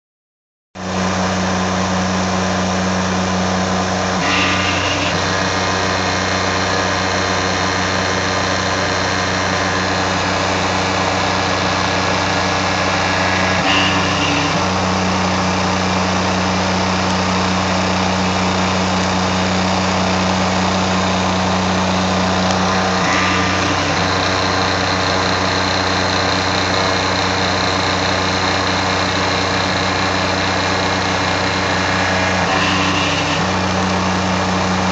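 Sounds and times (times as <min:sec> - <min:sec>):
milling machine cutting steel: 0:00.8 - 0:34.9.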